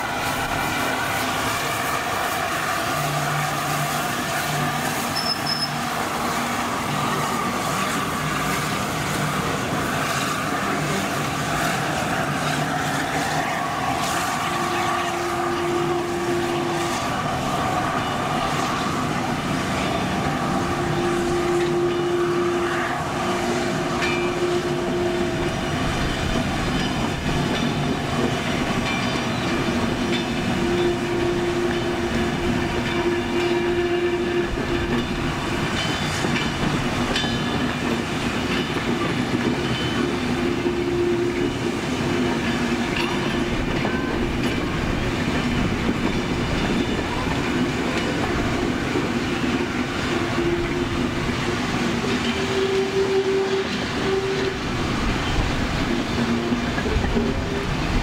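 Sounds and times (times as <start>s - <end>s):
long steady tones: 0.0s - 58.0s
steam train rumbling: 0.0s - 58.0s.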